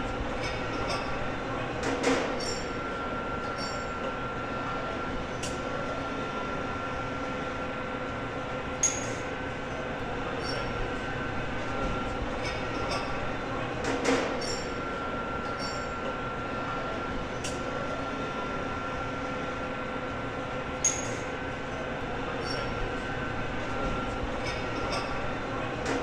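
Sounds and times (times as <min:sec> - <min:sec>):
assembly hall hum: 0:00.0 - 0:26.0.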